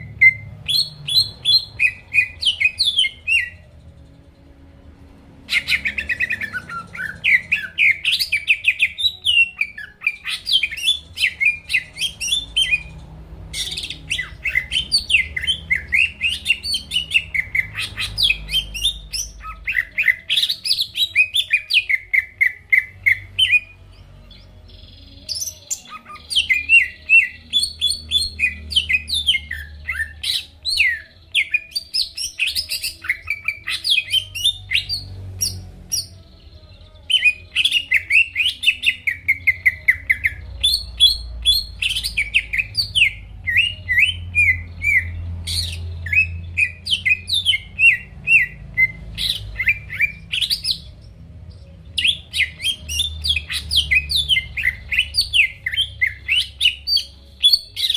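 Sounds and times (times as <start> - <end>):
bird singing chirps and trills: 0.0 - 57.9.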